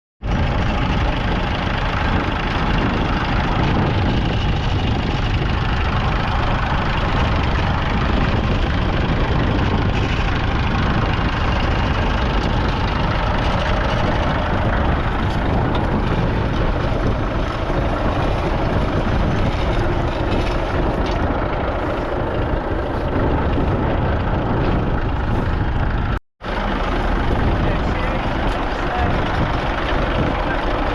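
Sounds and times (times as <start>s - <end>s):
tractor diesel engine running: 0.2s - 30.9s.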